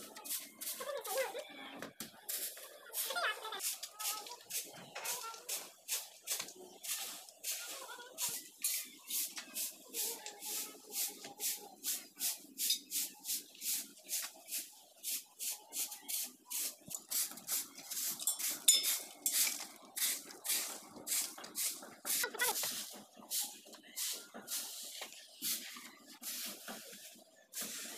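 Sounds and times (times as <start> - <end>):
straw broom sweeping concrete: 0.0 - 1.4, 2.2 - 27.9.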